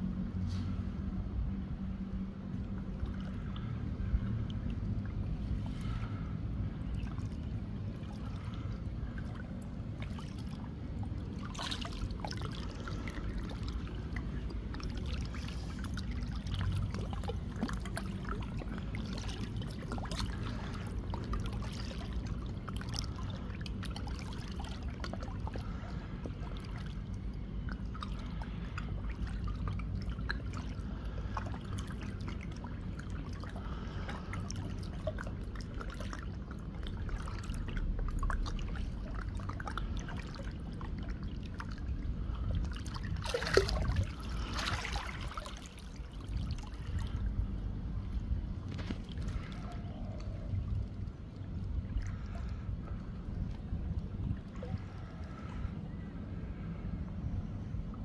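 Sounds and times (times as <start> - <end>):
low rumble: 0.0 - 58.0
pool water trickling and lapping: 0.0 - 58.0
small splashes: 2.7 - 55.8.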